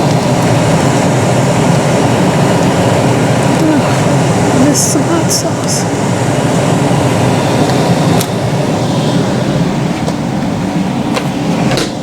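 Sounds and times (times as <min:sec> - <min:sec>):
air fryer fan whirring: 0:00.0 - 0:12.0.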